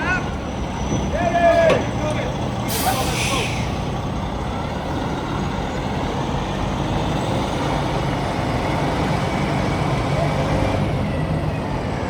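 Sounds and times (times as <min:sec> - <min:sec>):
city street noise: 0:00.0 - 0:12.0
heavy vehicle engine rumbling: 0:00.0 - 0:12.0.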